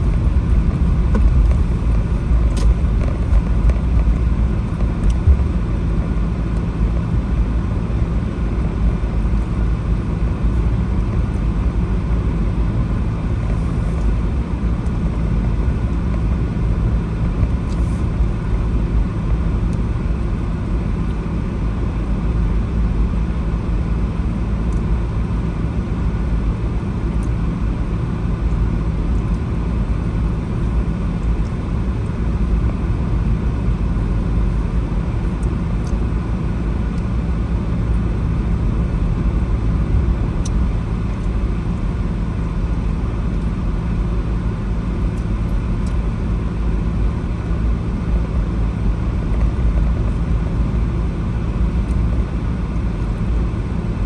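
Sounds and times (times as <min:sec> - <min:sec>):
car engine and road rumble: 0:00.0 - 0:54.0
faint steady hum: 0:00.0 - 0:54.0.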